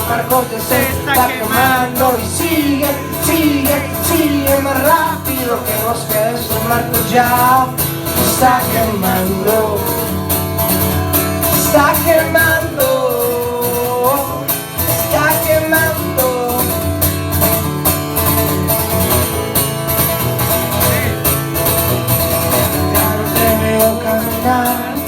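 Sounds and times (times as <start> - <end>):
plucked guitar lines: 0.0 - 25.0.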